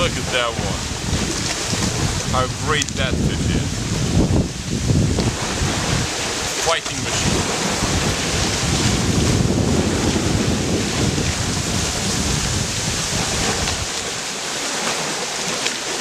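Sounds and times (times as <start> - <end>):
wind buffeting microphone: 0.0 - 15.6
waves washing on shore: 0.0 - 16.0.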